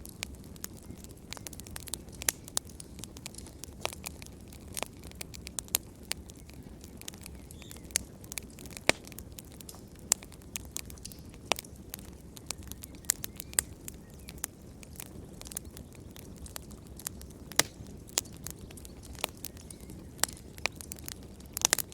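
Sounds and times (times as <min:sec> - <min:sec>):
fire crackling and popping: 0:00.0 - 0:21.9
low rumble of flames: 0:00.0 - 0:21.9.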